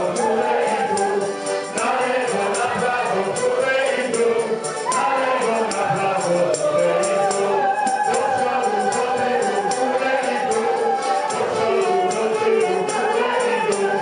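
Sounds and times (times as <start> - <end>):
accordion: 0.0 - 14.0
percussion beat: 0.0 - 14.0
person singing: 0.0 - 14.0.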